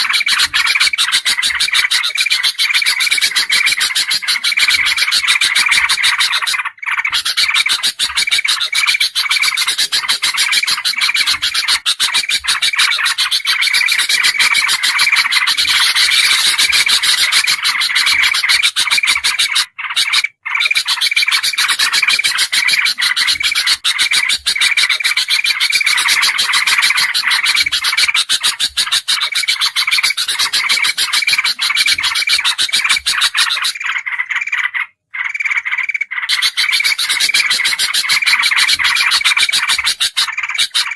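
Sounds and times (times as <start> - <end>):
bulbul bird calls: 0.0 - 40.9.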